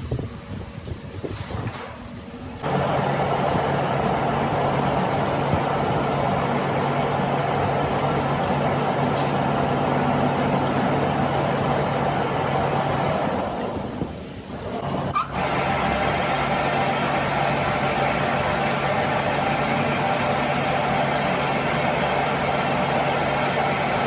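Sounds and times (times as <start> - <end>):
machine humming: 2.6 - 14.0, 14.6 - 24.0.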